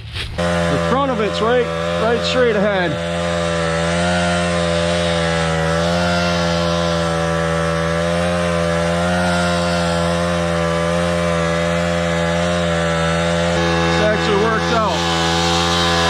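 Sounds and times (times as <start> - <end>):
small winch engine running: 0.4 - 16.0.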